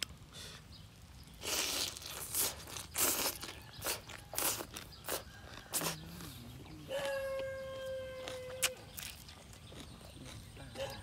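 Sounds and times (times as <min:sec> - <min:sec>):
chewing and slurping food: 0:01.4 - 0:11.0.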